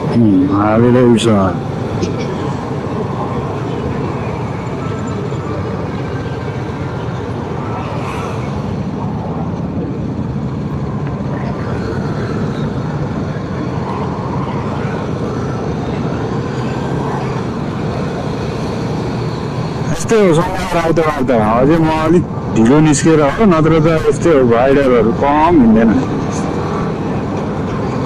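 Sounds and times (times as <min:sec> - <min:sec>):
road and wind noise: 0:00.0 - 0:28.0.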